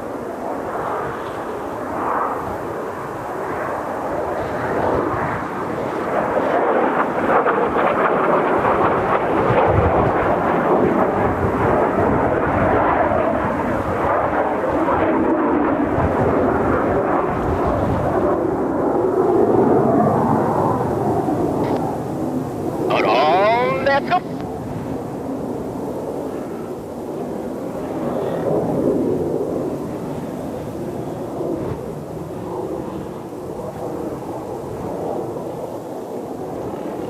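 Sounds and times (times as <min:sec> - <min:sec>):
wind buffeting microphone: 0:00.0 - 0:22.9, 0:24.1 - 0:37.0
jet aircraft flying overhead: 0:00.0 - 0:37.0.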